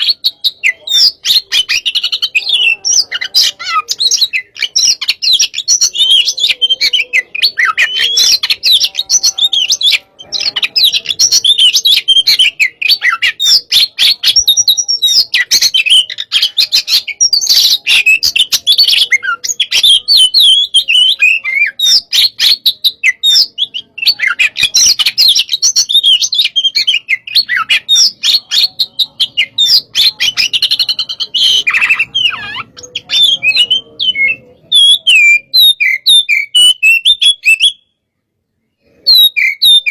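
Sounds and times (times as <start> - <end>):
bird singing loudly: 0.0 - 38.0, 38.8 - 39.9.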